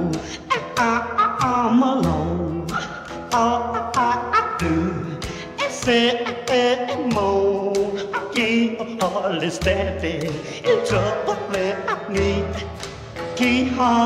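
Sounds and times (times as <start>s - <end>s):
guitar: 0.0s - 14.0s
man singing with vibrato: 0.0s - 14.0s
slapped bass rhythm: 0.0s - 14.0s.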